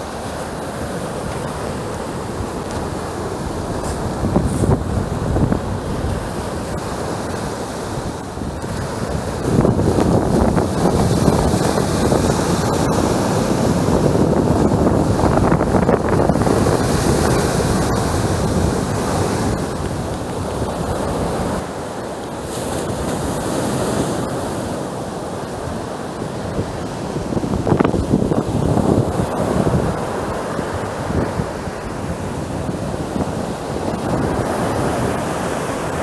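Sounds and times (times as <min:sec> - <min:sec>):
surf breaking on shore: 0:00.0 - 0:36.0
wind buffeting microphone: 0:00.0 - 0:36.0.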